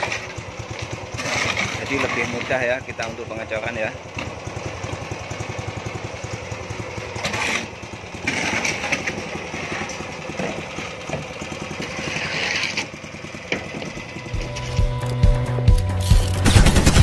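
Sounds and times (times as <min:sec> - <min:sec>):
small petrol engine running: 0:00.0 - 0:17.0.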